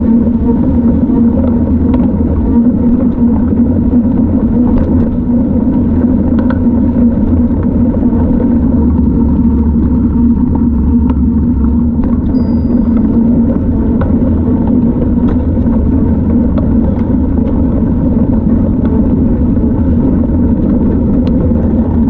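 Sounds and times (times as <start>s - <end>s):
low rumble of bike riding: 0.0s - 22.0s.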